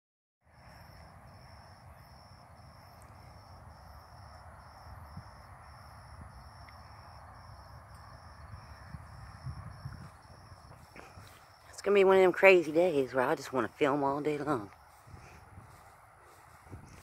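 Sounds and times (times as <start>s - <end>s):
insects chirping: 0.5s - 17.0s.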